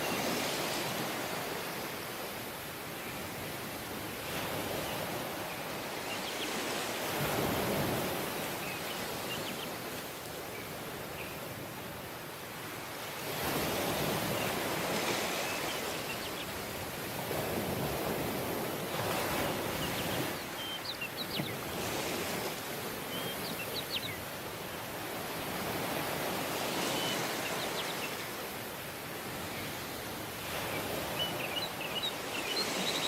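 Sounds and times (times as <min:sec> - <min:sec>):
waves washing onto beach: 0:00.0 - 0:33.0.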